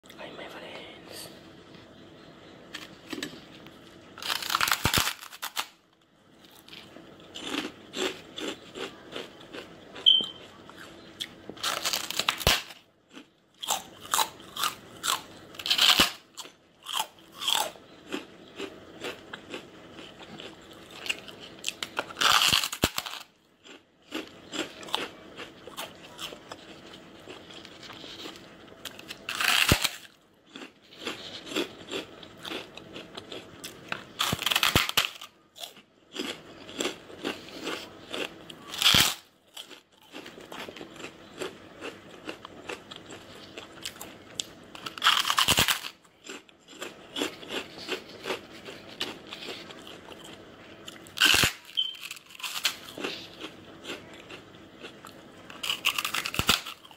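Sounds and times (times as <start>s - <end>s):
chips crunching while chewed: 4.2s - 5.8s, 6.4s - 56.9s.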